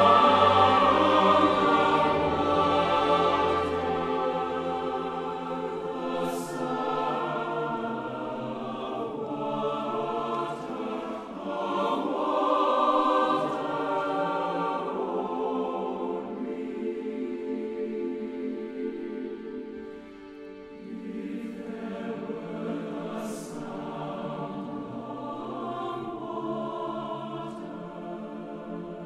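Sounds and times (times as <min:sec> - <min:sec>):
mixed choir singing: 0:00.0 - 0:29.0.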